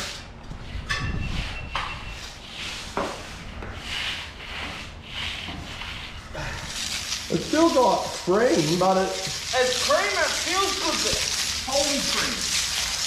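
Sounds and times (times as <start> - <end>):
hand tool scraping wet concrete: 0.0 - 0.3, 1.3 - 13.0.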